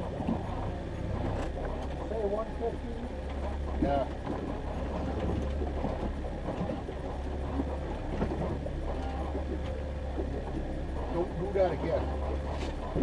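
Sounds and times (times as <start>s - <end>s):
boat motor humming: 0.0s - 13.0s
water and hull noise: 0.0s - 13.0s.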